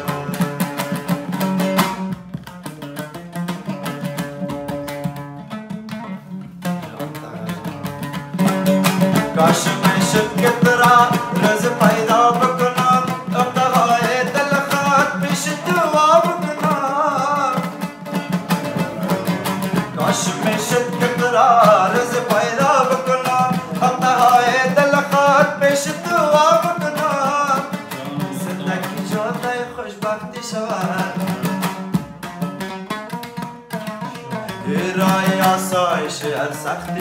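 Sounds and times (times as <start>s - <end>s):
man singing: 0.0s - 2.0s, 6.6s - 32.0s, 33.9s - 37.0s
strummed lute drone: 0.0s - 37.0s.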